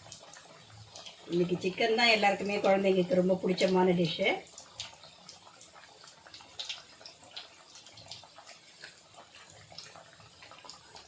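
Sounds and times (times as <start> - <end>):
chicken deep-frying in hot oil: 0.0 - 11.0
oil crackles and pops: 0.0 - 11.0.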